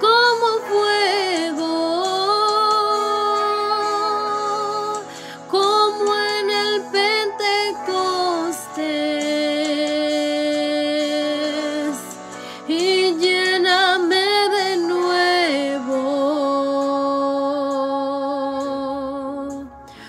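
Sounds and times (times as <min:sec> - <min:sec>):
woman singing with vibrato: 0:00.0 - 0:19.8.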